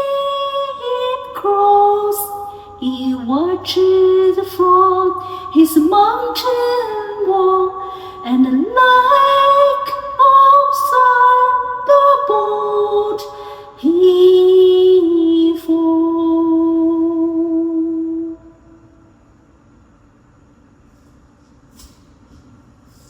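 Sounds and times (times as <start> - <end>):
woman singing: 0.0 - 18.8.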